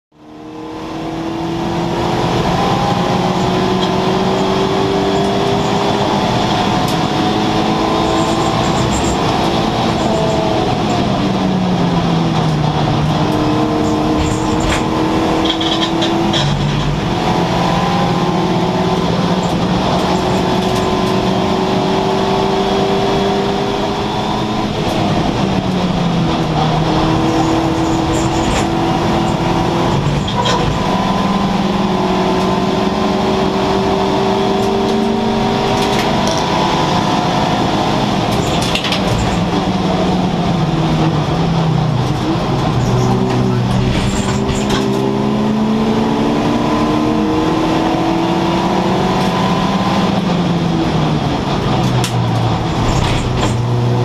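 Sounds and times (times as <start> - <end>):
race car engine at high revs: 0.1 - 54.0
road and wind noise: 0.1 - 54.0.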